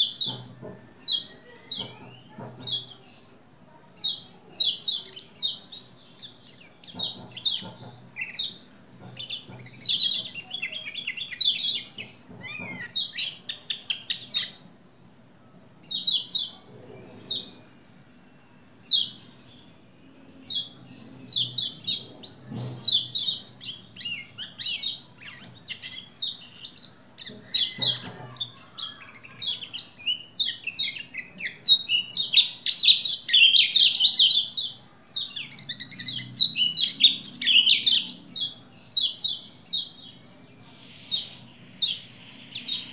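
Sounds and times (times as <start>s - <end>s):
bird singing chirps and trills: 0.0s - 42.9s.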